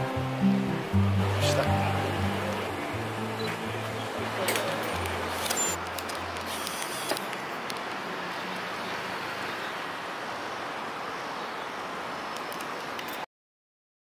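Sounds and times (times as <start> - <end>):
city street traffic: 0.0 - 13.3.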